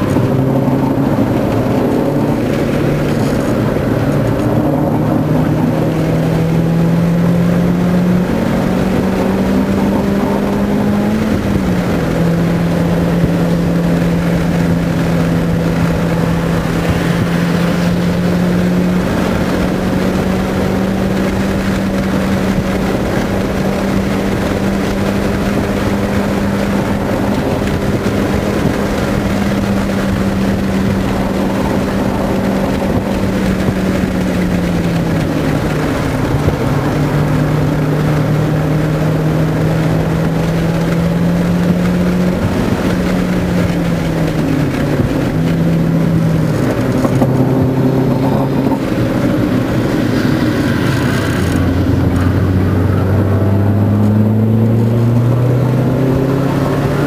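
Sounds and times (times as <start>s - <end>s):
car engine drone from inside: 0.0s - 57.0s
road and wind noise: 0.0s - 57.0s.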